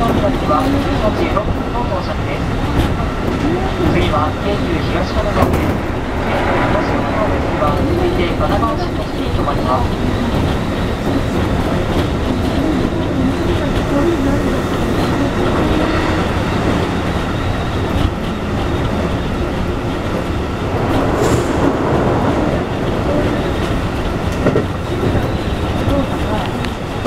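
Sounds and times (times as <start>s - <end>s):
wheels rumbling on rails: 0.0s - 27.0s.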